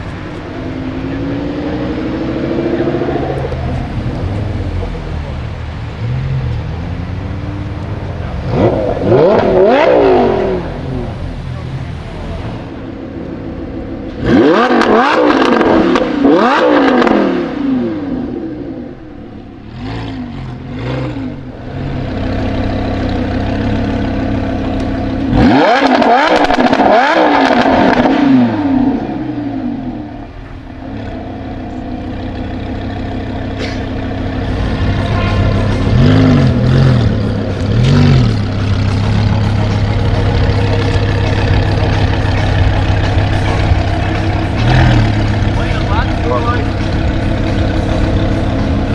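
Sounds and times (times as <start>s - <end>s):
car engine idling: 0.0s - 48.9s
sports car engine revving: 0.0s - 48.9s.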